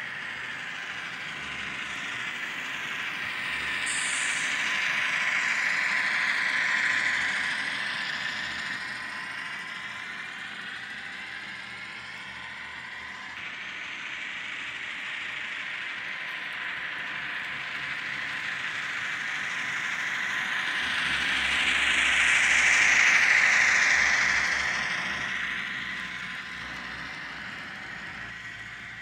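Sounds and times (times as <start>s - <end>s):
model train whirring past: 0.0s - 29.0s.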